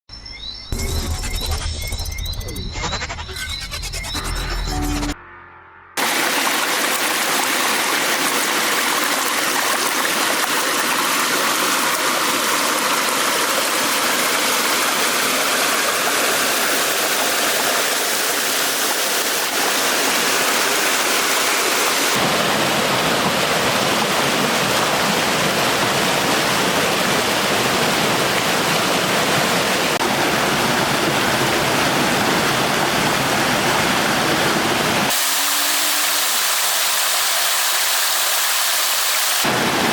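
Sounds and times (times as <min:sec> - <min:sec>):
stream of water flowing: 0:06.0 - 0:39.9.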